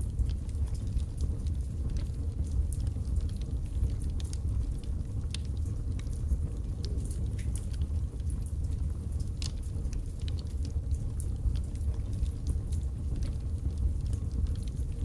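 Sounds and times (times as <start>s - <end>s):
fire rumbling: 0.0s - 15.0s
wood crackling and popping: 0.0s - 15.0s.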